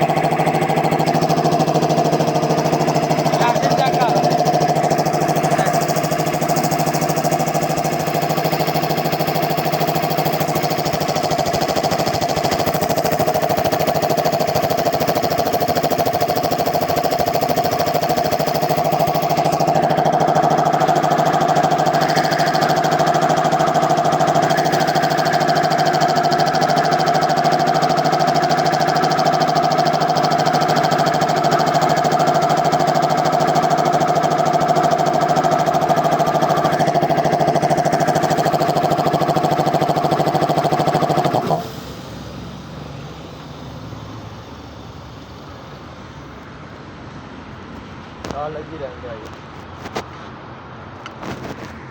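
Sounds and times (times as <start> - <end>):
air compressor running: 0.0 - 51.9.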